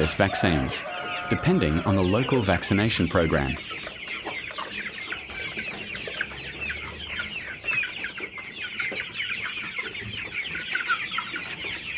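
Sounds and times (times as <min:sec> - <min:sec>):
chicks peeping: 0:00.0 - 0:11.9.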